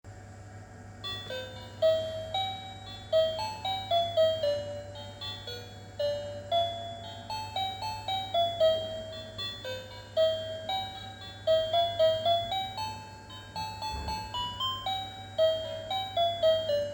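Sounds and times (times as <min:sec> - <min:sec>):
toy electronic tune: 0:01.0 - 0:16.9.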